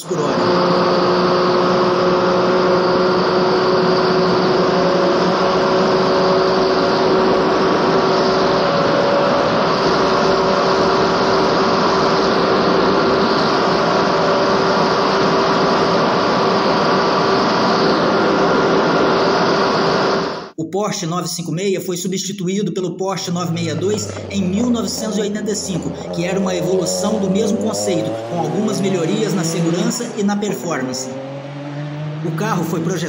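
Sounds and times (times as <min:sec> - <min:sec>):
racing car engine: 0:00.0 - 0:20.1, 0:23.2 - 0:33.0.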